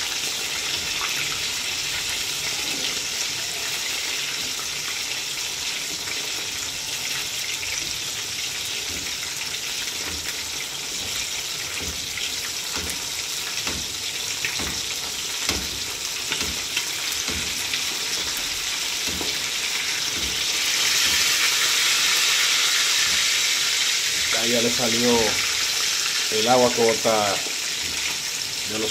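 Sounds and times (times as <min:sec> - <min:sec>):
fish sizzling in hot oil: 0:00.0 - 0:28.9
oil popping and crackling: 0:00.0 - 0:28.9.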